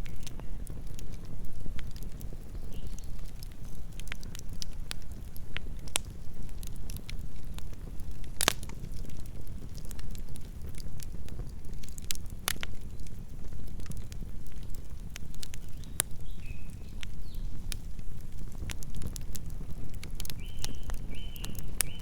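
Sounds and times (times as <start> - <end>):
campfire flames rumbling: 0.0 - 22.0
wood popping and crackling: 0.0 - 22.0.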